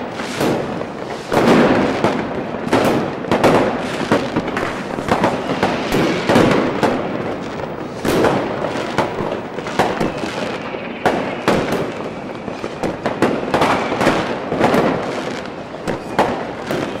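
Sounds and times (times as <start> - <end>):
fireworks bangs: 0.0 - 17.0
fireworks crackling and rumble: 0.0 - 17.0.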